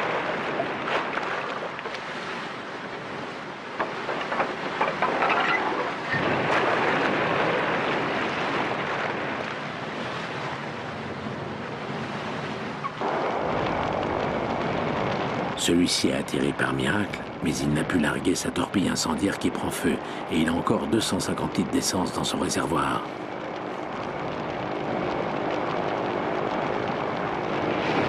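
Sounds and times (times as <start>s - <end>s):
sea: 0.0s - 28.0s
wind: 0.0s - 28.0s.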